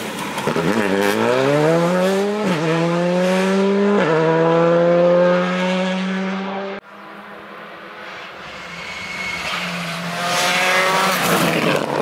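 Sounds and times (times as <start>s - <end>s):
rally car engine accelerating: 0.4s - 6.8s, 8.6s - 12.0s.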